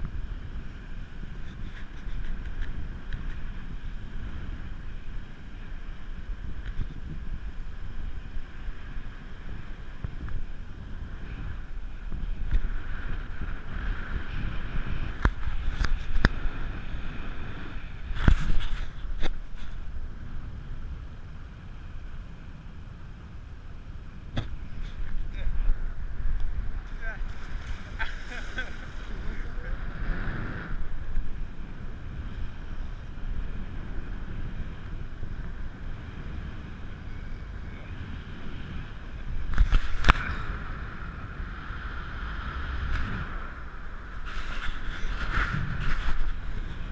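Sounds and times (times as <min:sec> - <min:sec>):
boat engine low rumble: 0:00.0 - 0:46.9
wind buffeting microphone: 0:00.0 - 0:46.9.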